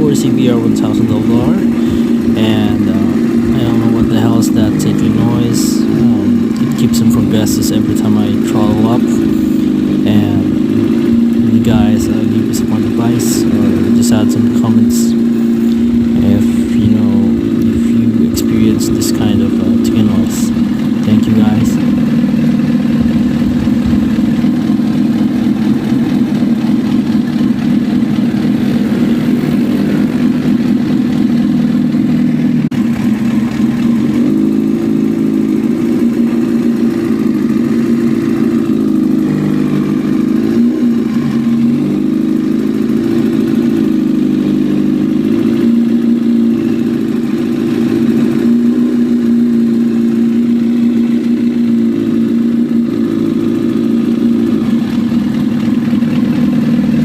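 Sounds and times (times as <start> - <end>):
engine ticking: 0.0 - 57.0
motorcycle engine revving: 0.0 - 57.0.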